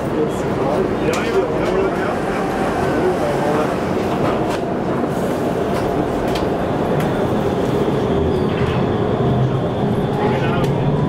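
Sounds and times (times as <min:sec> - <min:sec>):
trolleybus running noise: 0:00.0 - 0:11.0.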